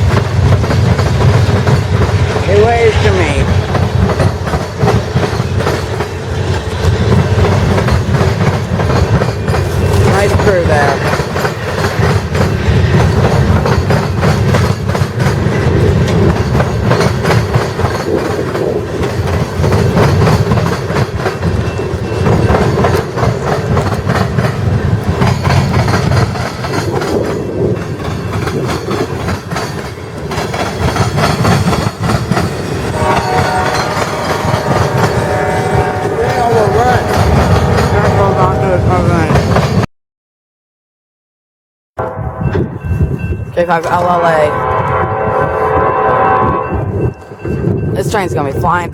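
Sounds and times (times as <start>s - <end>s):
train rumbling past: 0.0s - 39.9s, 42.0s - 48.9s.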